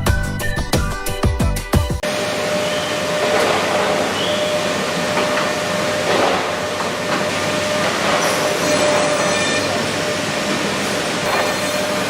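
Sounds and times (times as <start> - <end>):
wood-processing machinery running: 2.0 - 12.0.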